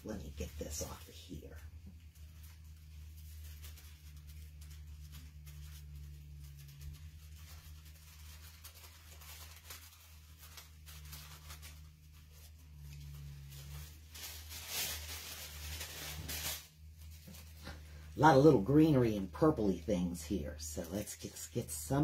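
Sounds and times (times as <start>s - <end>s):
paper napkin rustling: 0.0s - 22.0s
steady low hum: 0.0s - 22.0s.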